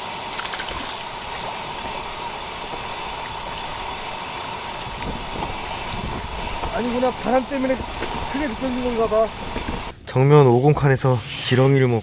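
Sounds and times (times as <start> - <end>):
strong wind rushing: 0.0 - 11.0.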